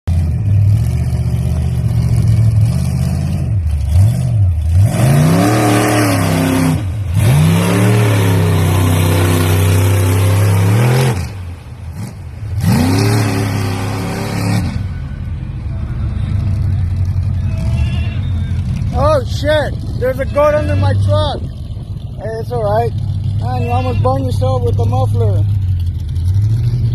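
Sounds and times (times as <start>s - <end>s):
monster truck engine revving: 0.0s - 26.9s.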